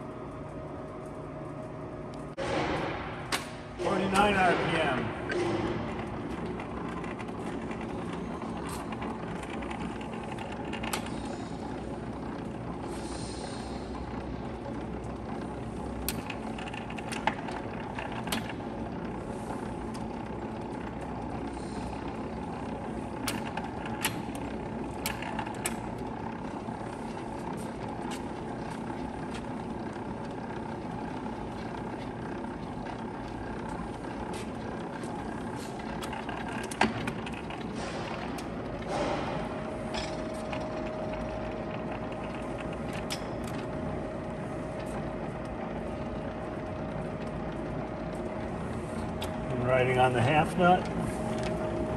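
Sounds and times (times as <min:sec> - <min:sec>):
lathe running: 0:02.4 - 0:51.9.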